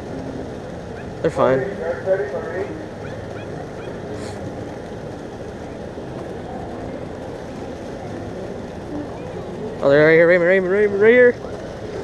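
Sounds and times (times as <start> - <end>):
harbour background rumble: 0.0 - 12.0.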